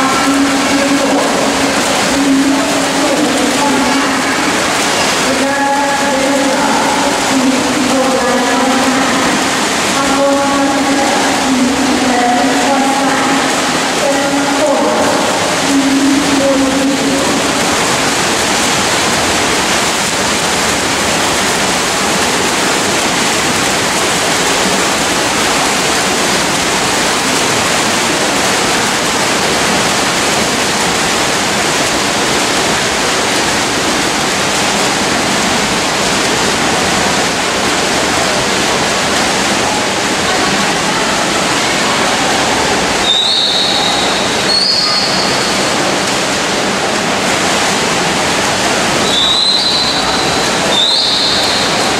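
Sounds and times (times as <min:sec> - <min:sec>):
swimmers splashing: 0:00.0 - 0:51.9.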